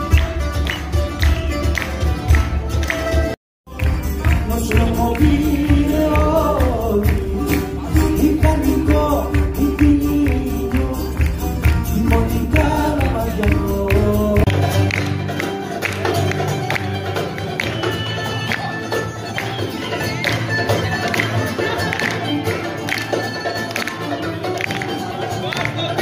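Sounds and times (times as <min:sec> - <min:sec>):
bouzouki and guitars playing: 0:00.0 - 0:26.0
hand percussion beat: 0:00.0 - 0:26.0.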